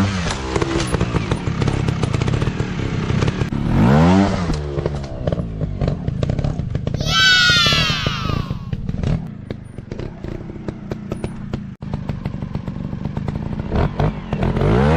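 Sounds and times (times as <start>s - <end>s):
engine knocks and clatter: 0.0s - 7.0s, 8.8s - 14.9s.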